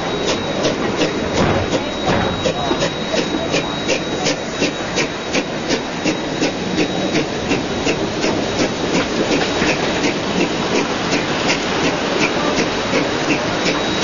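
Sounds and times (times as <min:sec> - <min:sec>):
steam locomotive chuffing: 0:00.0 - 0:14.0
train wheels rumbling: 0:00.0 - 0:14.0.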